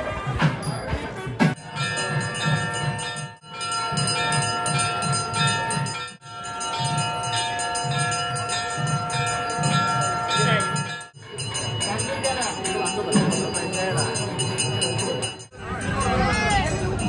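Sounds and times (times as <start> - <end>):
bells ringing: 0.6 - 17.0.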